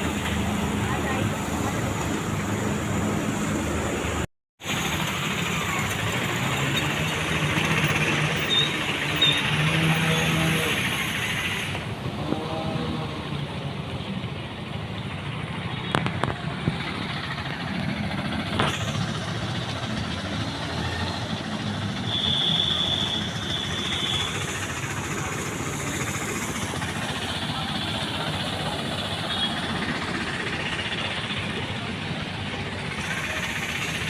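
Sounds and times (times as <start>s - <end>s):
traffic: 0.0s - 34.0s.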